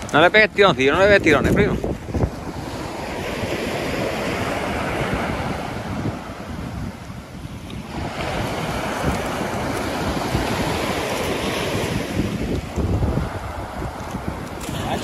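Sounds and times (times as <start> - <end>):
surf washing onto a beach: 0.0 - 15.0
wind buffeting the microphone: 0.0 - 15.0.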